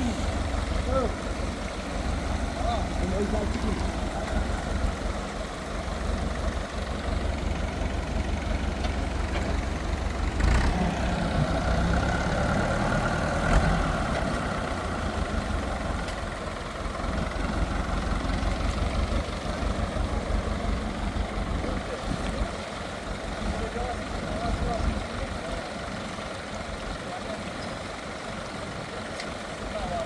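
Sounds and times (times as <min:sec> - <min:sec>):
engine rumbling: 0:00.0 - 0:30.0.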